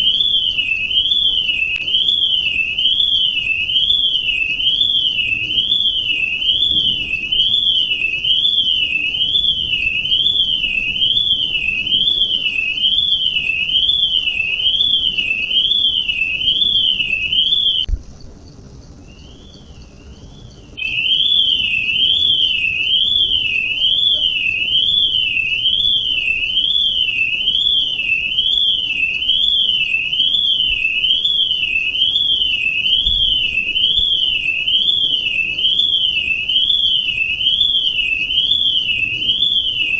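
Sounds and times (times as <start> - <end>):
electronic alarm warbling tone: 0.0 - 17.9, 19.0 - 39.9.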